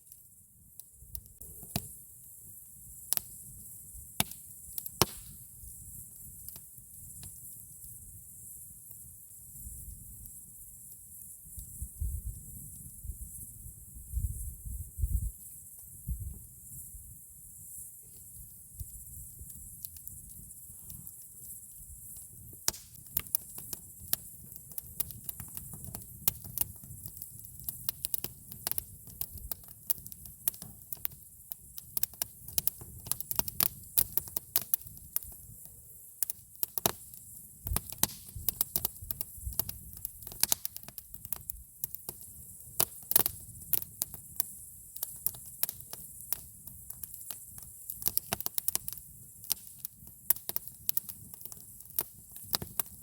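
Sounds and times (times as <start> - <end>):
campfire crackling and popping: 0.0 - 10.4, 17.7 - 53.0.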